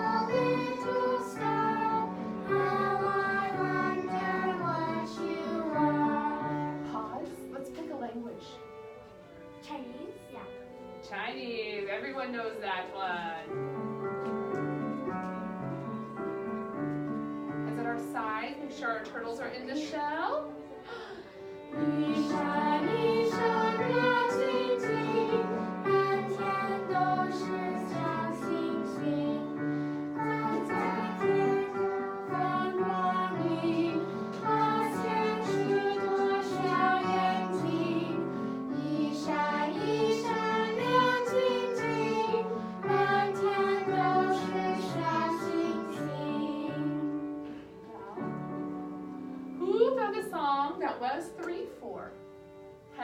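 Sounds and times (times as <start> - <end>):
students playing a simple tune: 0.0 - 53.0.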